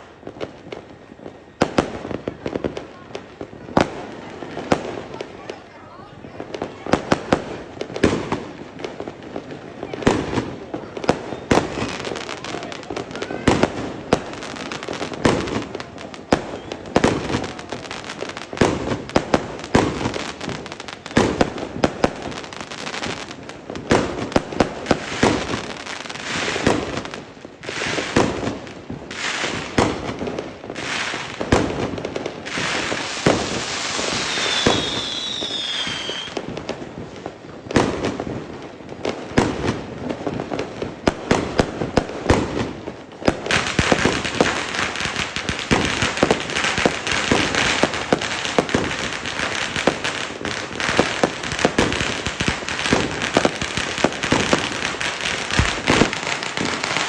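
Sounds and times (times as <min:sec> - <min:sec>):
fireworks bangs and crackling: 0:00.0 - 0:57.0
whistling fireworks: 0:00.0 - 0:57.0.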